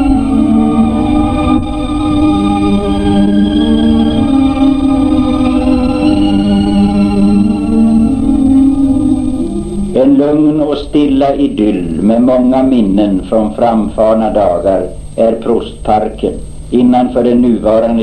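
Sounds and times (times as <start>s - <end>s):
slow organ-like music: 0.0s - 18.0s.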